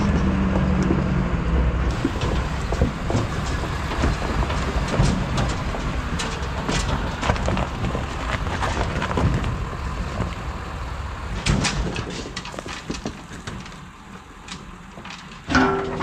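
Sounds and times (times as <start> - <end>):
excavator running: 0.0 - 16.0.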